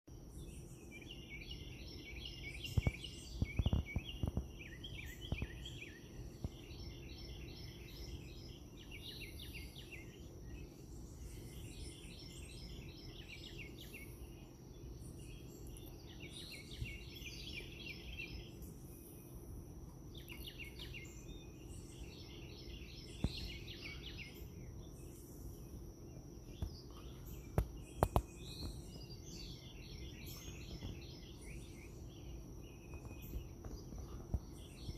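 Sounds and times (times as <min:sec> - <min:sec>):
birds chirping: 0:00.1 - 0:34.9
low background hum: 0:00.1 - 0:34.9.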